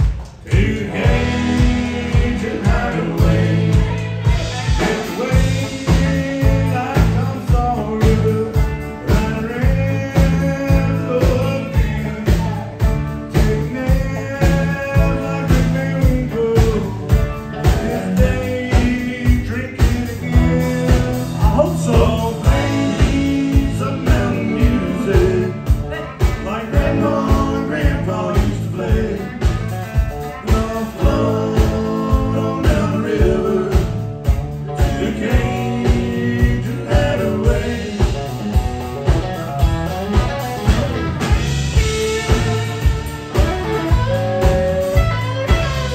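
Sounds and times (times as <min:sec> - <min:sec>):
country rock band playing: 0:00.0 - 0:45.9
man singing: 0:00.4 - 0:38.6, 0:43.8 - 0:45.9.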